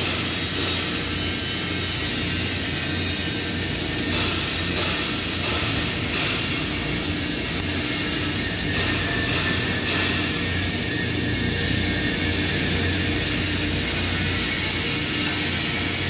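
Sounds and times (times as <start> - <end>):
welding arc crackling and hissing: 0.0 - 16.0.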